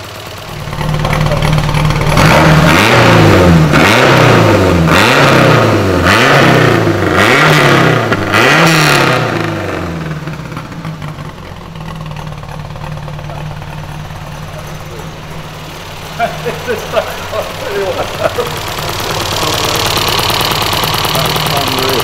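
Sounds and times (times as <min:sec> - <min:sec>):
car engine revving: 0:00.0 - 0:22.0
engine idling: 0:00.0 - 0:22.0.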